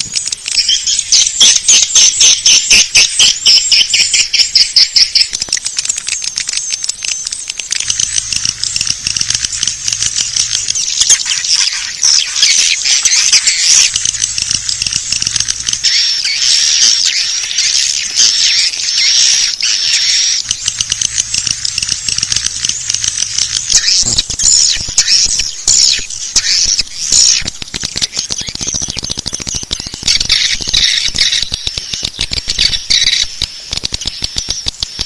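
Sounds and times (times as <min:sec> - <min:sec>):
rapid dry clicks: 0:00.0 - 0:35.0
swiftlets chittering and twittering: 0:00.0 - 0:35.0.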